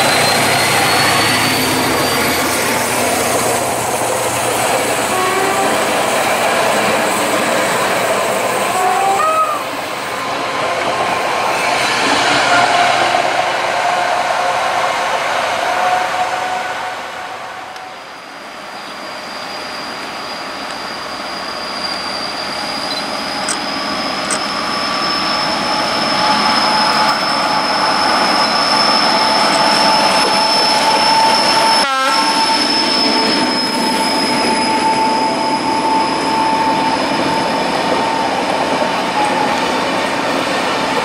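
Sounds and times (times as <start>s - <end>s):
high-pitched wheel squeal: 0.0s - 10.3s, 11.4s - 14.1s, 18.7s - 39.9s
train wheels rolling: 0.0s - 16.3s, 17.7s - 41.0s.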